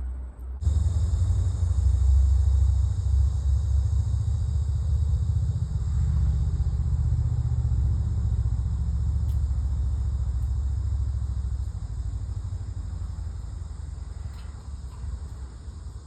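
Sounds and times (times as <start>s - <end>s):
low fluttering rumble: 0.0s - 16.0s.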